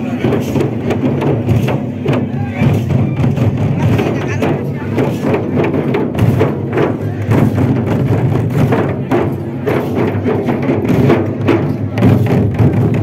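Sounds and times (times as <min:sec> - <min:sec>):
barrel drums beaten with sticks: 0:00.0 - 0:13.0
dancing crowd noise: 0:00.0 - 0:13.0.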